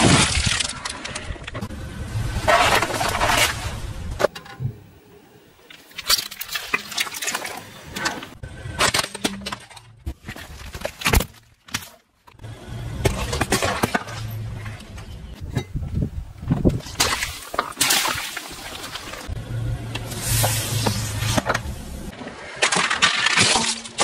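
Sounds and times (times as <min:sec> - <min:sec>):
car tyre crushing objects: 0:00.0 - 0:04.6, 0:05.6 - 0:24.0.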